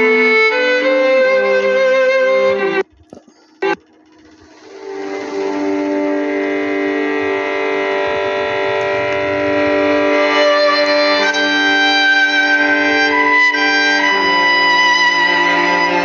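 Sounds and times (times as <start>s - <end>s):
slow string-like music: 0.0s - 16.0s.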